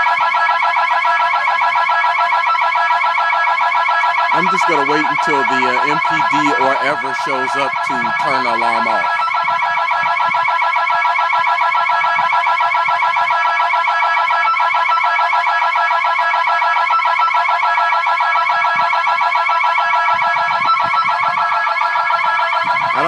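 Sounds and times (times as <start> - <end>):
security alarm warbling: 0.0 - 23.0.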